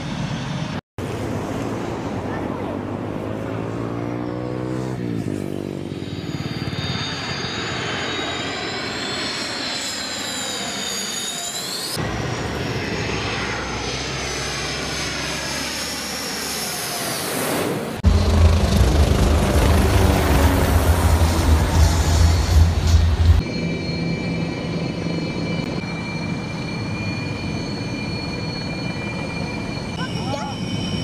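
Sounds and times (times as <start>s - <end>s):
jet engines in afterburner: 0.0s - 31.0s.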